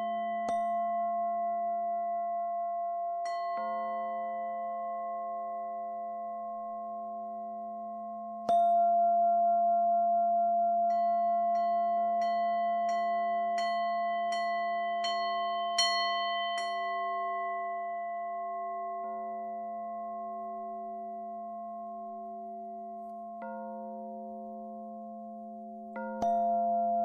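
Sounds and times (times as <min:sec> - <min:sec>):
singing bowl ringing tones: 0:00.0 - 0:27.0.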